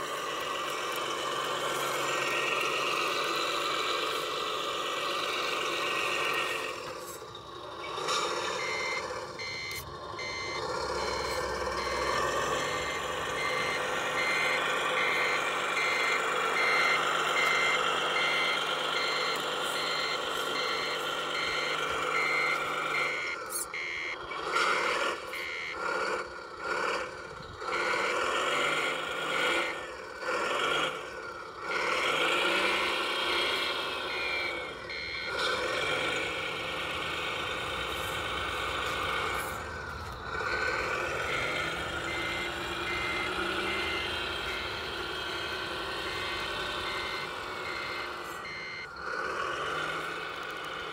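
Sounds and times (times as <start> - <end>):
reversing beeper: 0.0 - 30.0, 31.8 - 50.9
simulated diesel engine running: 0.0 - 50.9.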